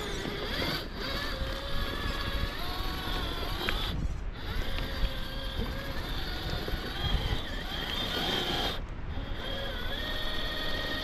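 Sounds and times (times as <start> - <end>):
electric motor and gears whining: 0.0 - 11.0
wind rumble on microphone: 0.0 - 11.0.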